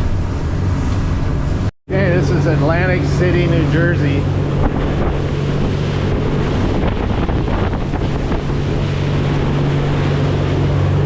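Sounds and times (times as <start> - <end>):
boat engine running: 0.0 - 11.0
water rushing along hull: 0.0 - 11.0
wind buffeting microphone: 0.0 - 11.0.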